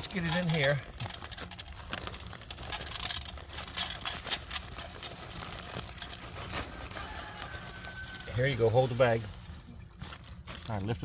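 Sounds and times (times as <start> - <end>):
birdseed bag rustling: 0.0 - 11.0.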